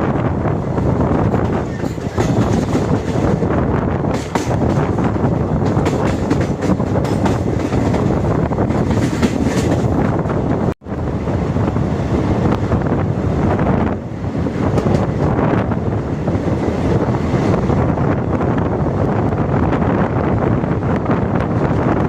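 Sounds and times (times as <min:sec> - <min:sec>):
train wheels on rails: 0:00.0 - 0:22.0
wind buffeting microphone: 0:00.0 - 0:22.0.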